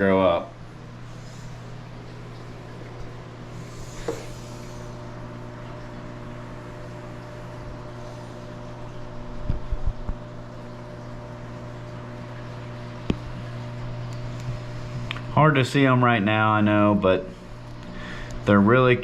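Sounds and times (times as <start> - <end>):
mechanical hum of equipment: 0.0 - 19.0.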